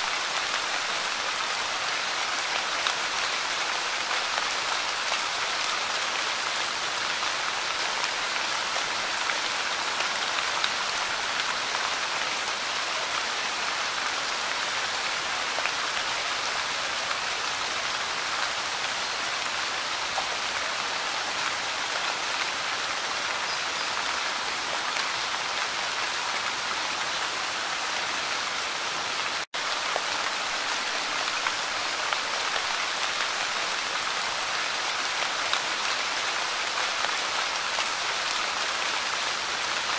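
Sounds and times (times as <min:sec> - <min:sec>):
light rain on leaves: 0:00.0 - 0:39.9.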